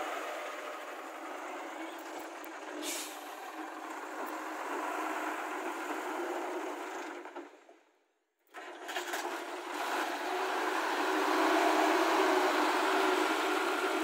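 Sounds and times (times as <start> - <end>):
heavy diesel machinery running: 0.0 - 7.3, 8.6 - 14.0.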